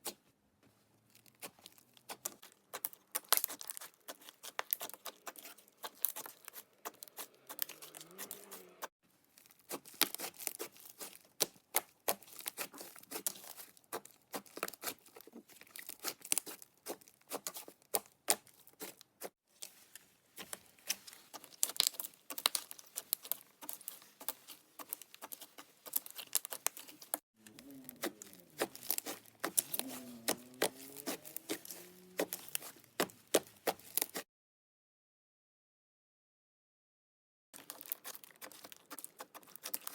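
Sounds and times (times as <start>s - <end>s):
slime squished by hand: 1.2s - 34.2s, 37.6s - 39.9s.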